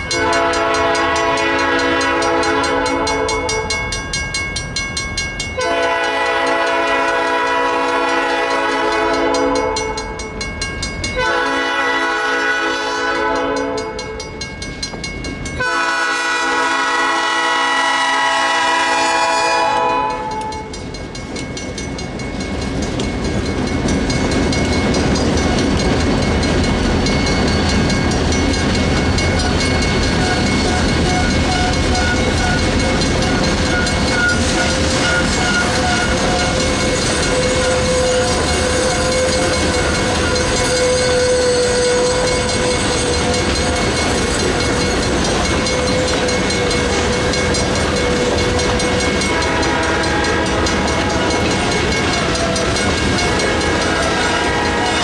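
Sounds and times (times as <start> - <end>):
freight train rumble and clatter: 0.0 - 55.0
railroad crossing bell ringing: 0.0 - 55.0.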